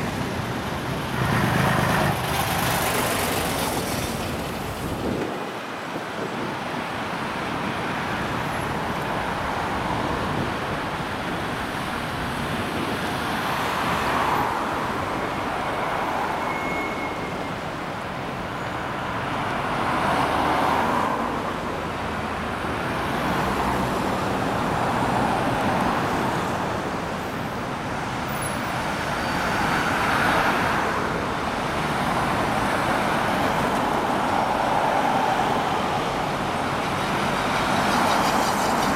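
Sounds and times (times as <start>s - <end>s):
cars and vans driving past: 0.0s - 38.9s.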